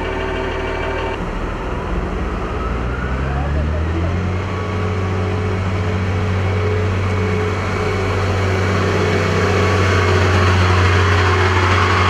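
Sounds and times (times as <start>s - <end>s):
construction machine engines humming: 0.0s - 12.0s.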